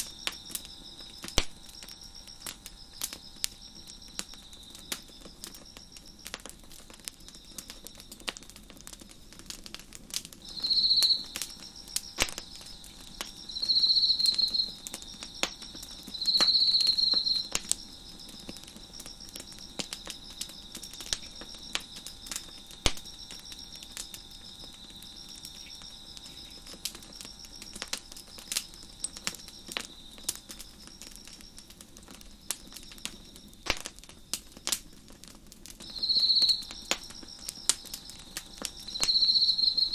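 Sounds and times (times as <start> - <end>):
close cricket trilling loudly: 0.0 - 8.3, 10.4 - 34.0, 35.8 - 39.9
crickets chirping: 0.0 - 39.9
wood fire crackling and popping: 0.0 - 39.9.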